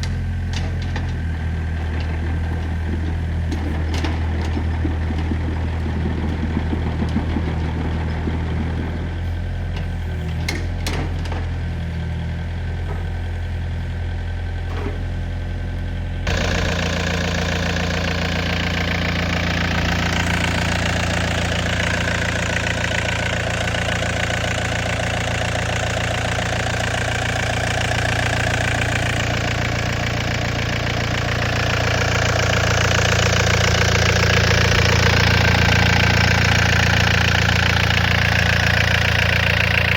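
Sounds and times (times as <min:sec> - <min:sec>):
excavator diesel engine idling: 0:00.0 - 0:39.9.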